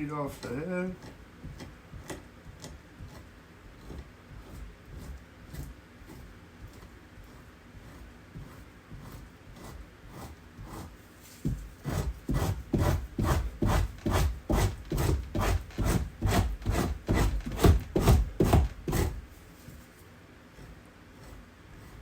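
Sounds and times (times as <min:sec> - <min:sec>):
knife scraping hide: 0:02.0 - 0:22.0.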